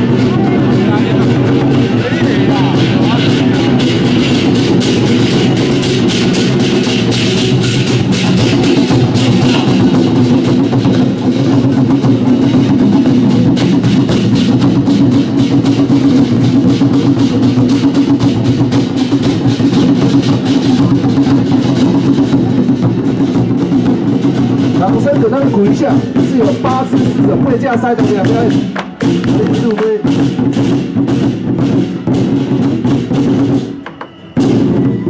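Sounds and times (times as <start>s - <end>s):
group of drums beaten fast: 0.0s - 35.0s.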